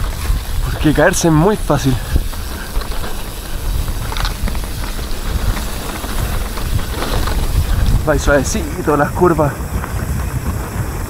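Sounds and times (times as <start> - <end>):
bike rattles and clicks: 0.0 - 11.0
bike tyres on mud: 0.0 - 11.0
wind on microphone: 0.0 - 11.0.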